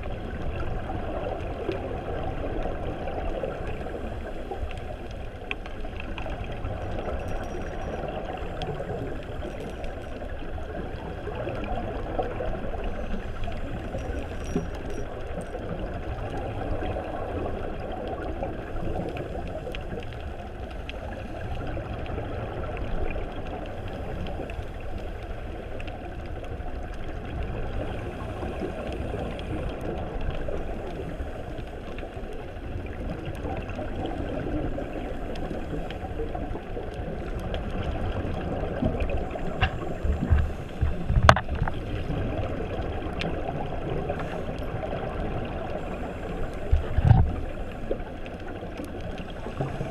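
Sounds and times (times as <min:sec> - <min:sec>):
muffled underwater rushing: 0:00.0 - 0:49.9.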